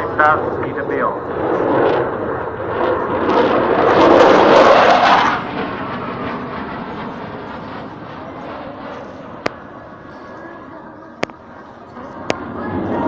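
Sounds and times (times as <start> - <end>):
jet passing overhead: 0.0 - 13.0.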